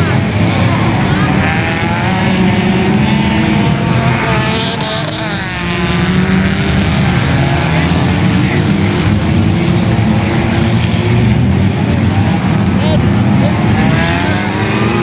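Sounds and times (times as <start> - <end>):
cars passing close: 0.0 - 15.0
race car engines: 0.0 - 15.0.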